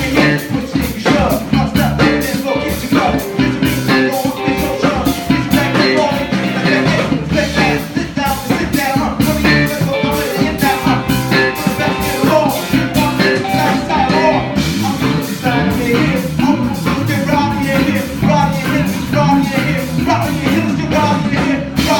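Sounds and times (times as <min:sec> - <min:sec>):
drums beating: 0:00.0 - 0:21.9
live rock band playing: 0:00.0 - 0:21.9.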